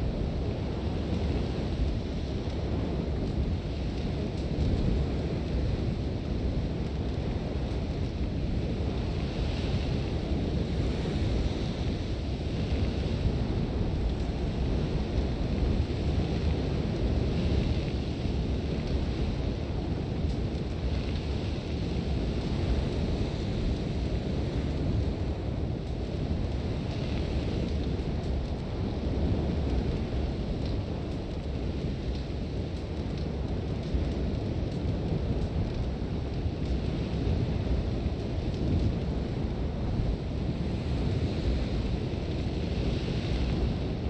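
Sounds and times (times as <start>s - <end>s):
strong wind rumbling: 0.0s - 44.0s.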